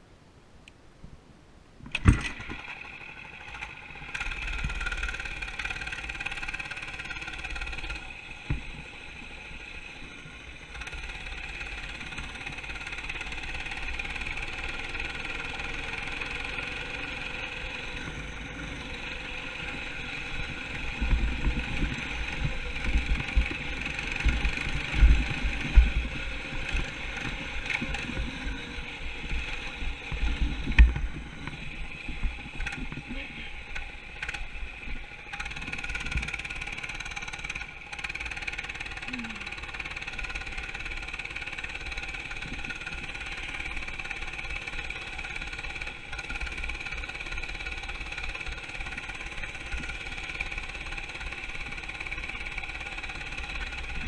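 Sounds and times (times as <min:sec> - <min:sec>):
small engine running: 0:01.9 - 0:54.0.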